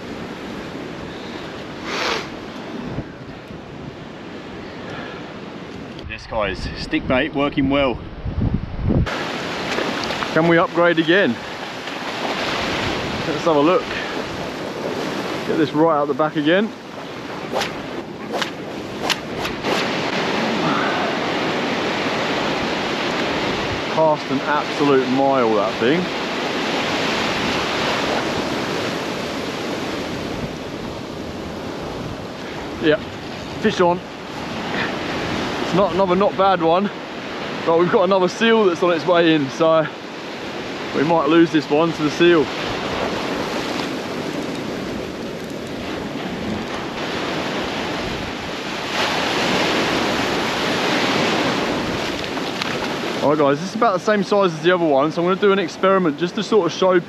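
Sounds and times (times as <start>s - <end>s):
wind on microphone: 0.0s - 37.7s, 39.9s - 53.4s
ocean surf breaking: 0.0s - 57.0s.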